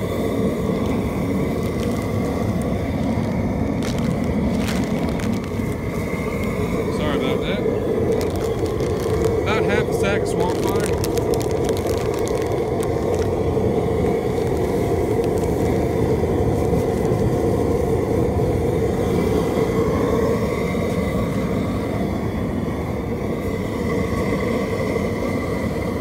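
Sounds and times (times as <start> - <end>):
propane burner roaring: 0.0 - 26.0
water boiling: 0.0 - 26.0.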